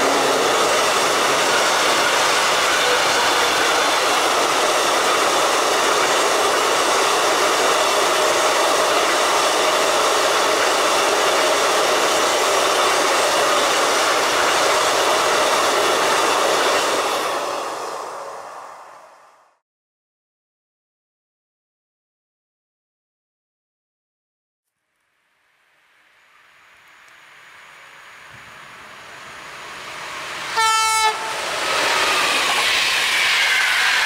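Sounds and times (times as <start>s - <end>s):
train wheels rushing on rails: 0.0s - 19.6s, 26.2s - 34.0s.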